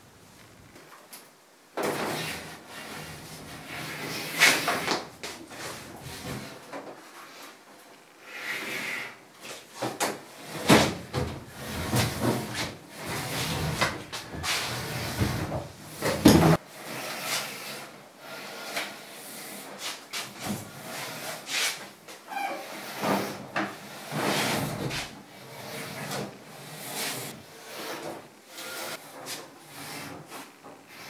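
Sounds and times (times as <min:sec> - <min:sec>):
washing machine scraping on tiles: 0:01.8 - 0:07.6, 0:08.2 - 0:09.7, 0:10.3 - 0:31.0.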